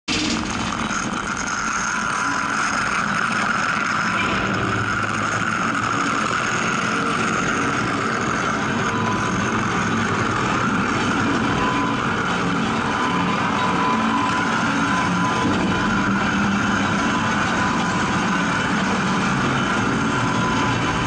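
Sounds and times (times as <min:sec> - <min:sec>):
thin mechanical whine: 0:00.1 - 0:21.0
turntable machinery droning: 0:00.1 - 0:21.0.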